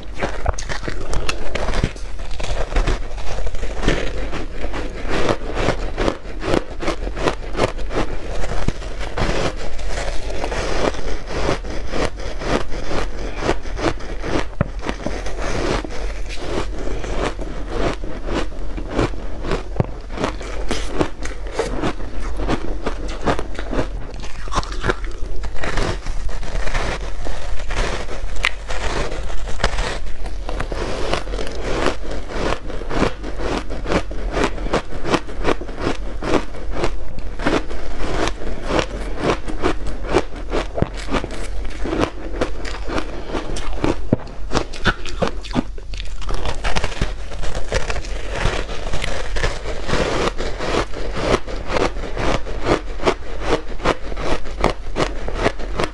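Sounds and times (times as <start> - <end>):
shaved ice crunching: 0.0 - 55.9.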